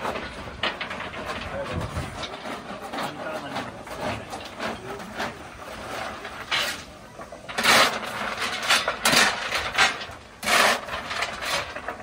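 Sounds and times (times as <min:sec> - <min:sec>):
shovel scraping and clanking: 0:00.0 - 0:12.0.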